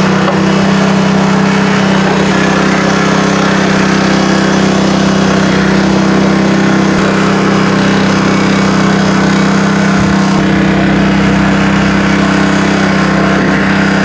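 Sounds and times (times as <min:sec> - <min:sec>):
gas engine running steadily: 0:00.0 - 0:14.0.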